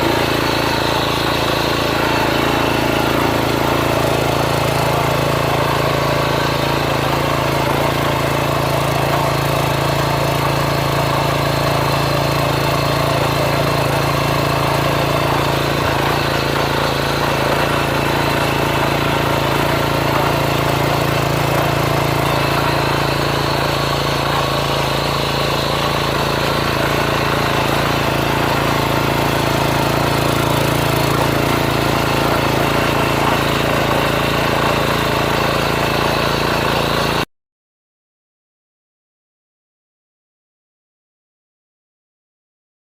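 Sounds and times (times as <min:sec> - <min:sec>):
small tiller engine running: 0:00.0 - 0:37.3.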